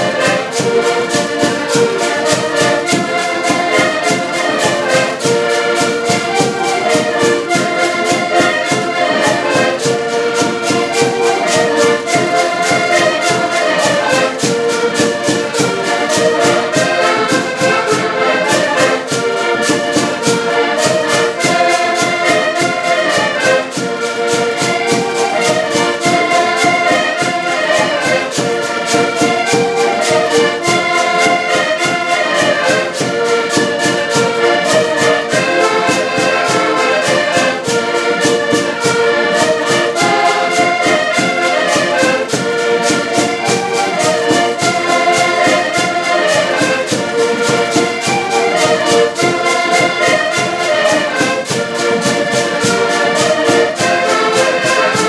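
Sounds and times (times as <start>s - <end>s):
accordions playing folk tune: 0.0s - 55.0s
fast percussive beat: 0.0s - 55.0s.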